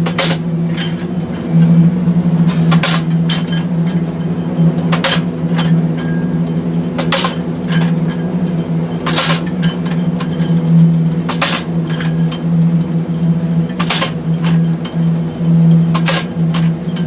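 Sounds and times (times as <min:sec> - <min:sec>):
metal clanks and knocks: 0:00.0 - 0:01.8, 0:02.4 - 0:17.0
heavy machine engine drone: 0:00.0 - 0:17.0.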